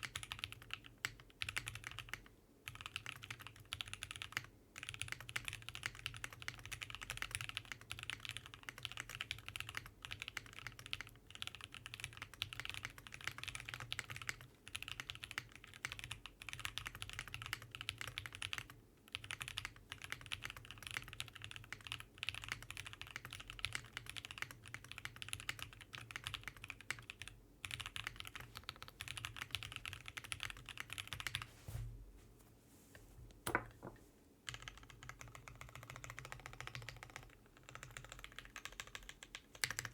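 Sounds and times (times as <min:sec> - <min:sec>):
fast mechanical keyboard typing: 0:00.0 - 0:31.5, 0:34.5 - 0:39.9.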